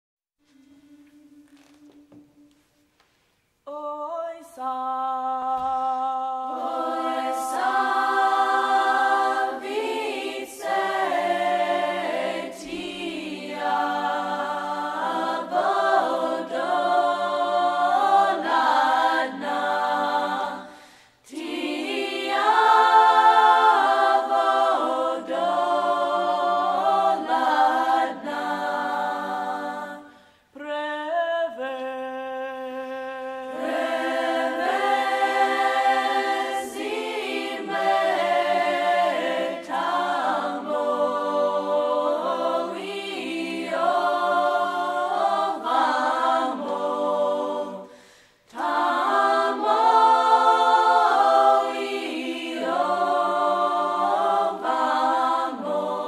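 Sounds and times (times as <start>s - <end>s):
voices singing in harmony: 0.4s - 2.8s, 3.7s - 56.0s.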